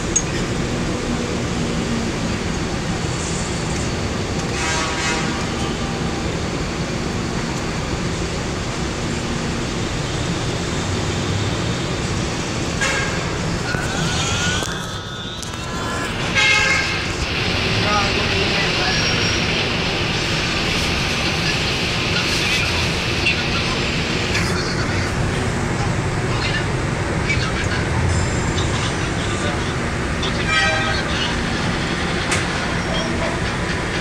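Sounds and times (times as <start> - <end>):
passing train whine: 0.0 - 34.0.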